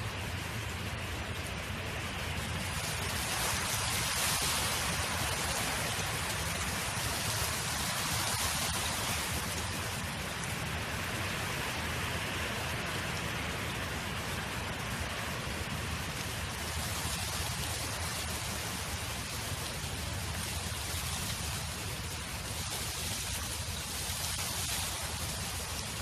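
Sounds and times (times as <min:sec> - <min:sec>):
steady wind noise: 0:00.0 - 0:26.0.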